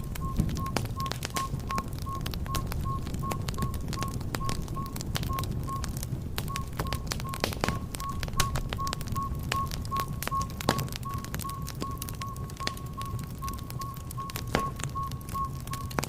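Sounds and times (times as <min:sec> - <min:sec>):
rush of flames: 0:00.0 - 0:16.0
wood fire crackling and popping: 0:00.0 - 0:16.0.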